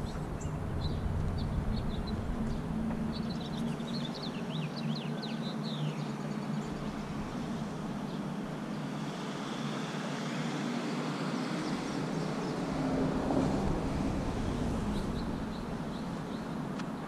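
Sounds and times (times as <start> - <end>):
vehicle rumbling past: 0.0 - 4.2, 6.6 - 16.7
traffic hum: 0.0 - 5.1, 6.2 - 17.0.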